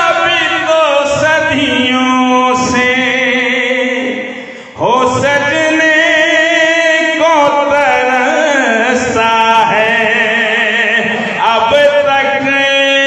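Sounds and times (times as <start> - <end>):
man chanting through loudspeaker: 0.0 - 13.0.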